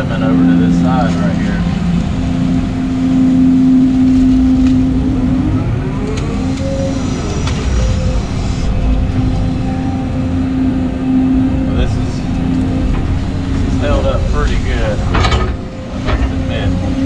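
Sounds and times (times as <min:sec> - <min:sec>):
excavator diesel engine and hydraulics: 0:00.0 - 0:17.0.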